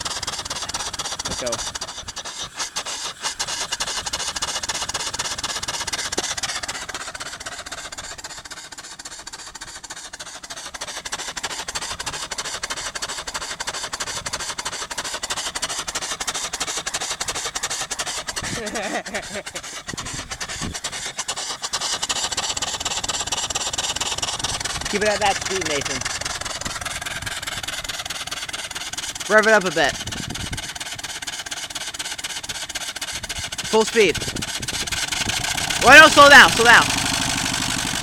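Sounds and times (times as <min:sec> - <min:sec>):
steam engine exhaust chuffs: 0:00.0 - 0:38.0.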